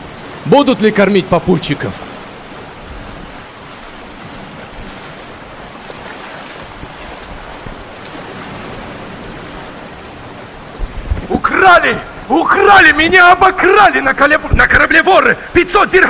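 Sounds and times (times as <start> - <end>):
surf washing over speakers: 0.0 - 16.0.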